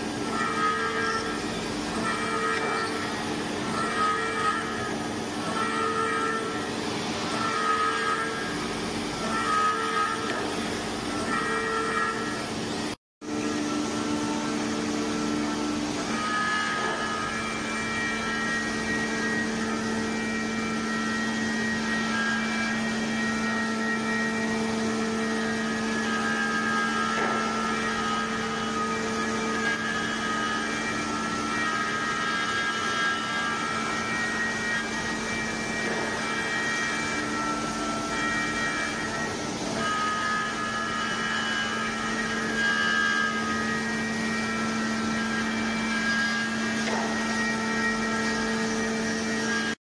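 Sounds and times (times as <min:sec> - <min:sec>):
machine hum with high whine: 0:00.0 - 0:49.8.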